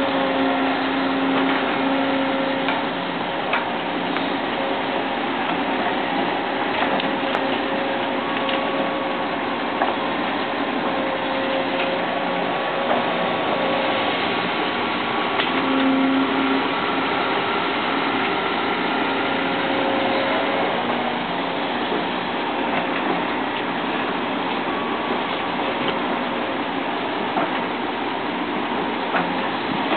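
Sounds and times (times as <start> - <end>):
excavator engine and hydraulics: 0.0 - 29.9.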